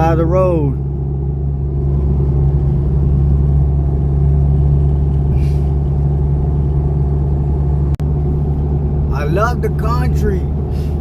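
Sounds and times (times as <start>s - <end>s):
vehicle engine and road drone: 0.0s - 11.0s.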